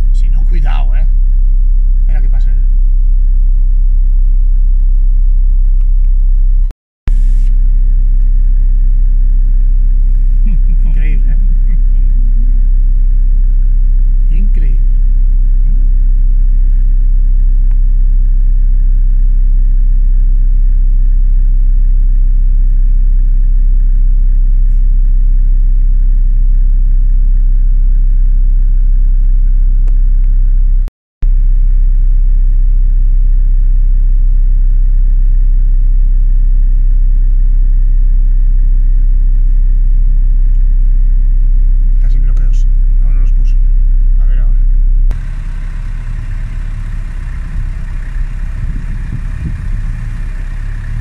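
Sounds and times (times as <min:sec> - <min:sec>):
deep engine drone: 0:00.0 - 0:51.0.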